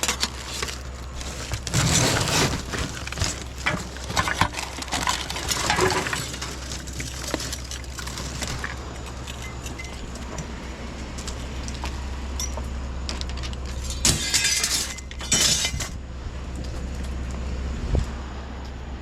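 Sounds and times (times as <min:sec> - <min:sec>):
scrap metal clinking and clattering: 0:00.0 - 0:16.0
low engine hum: 0:00.0 - 0:19.0.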